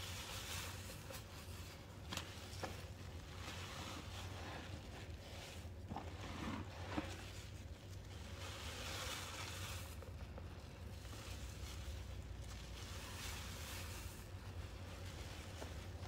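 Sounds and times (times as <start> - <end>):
low steady hum: 0.0 - 16.0
wet sponges squeezed crackling: 0.0 - 16.0.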